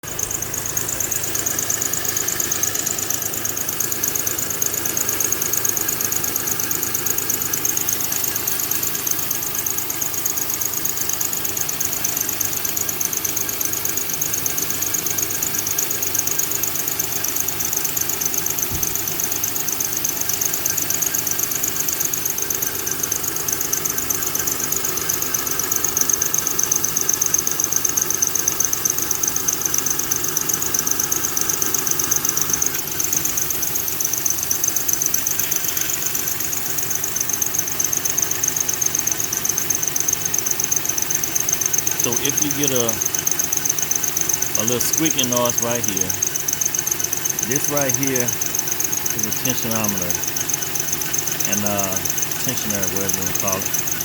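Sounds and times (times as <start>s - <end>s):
belt tensioner squealing: 0.0s - 54.0s
car engine running: 0.0s - 54.0s.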